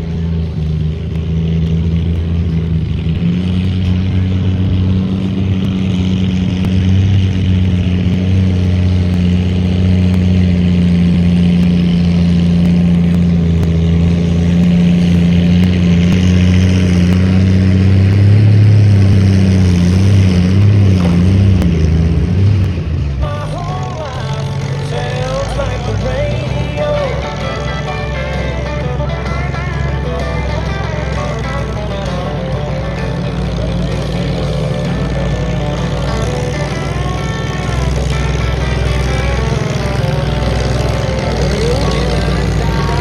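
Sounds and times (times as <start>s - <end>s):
tractor engine running under load: 0.0s - 43.0s.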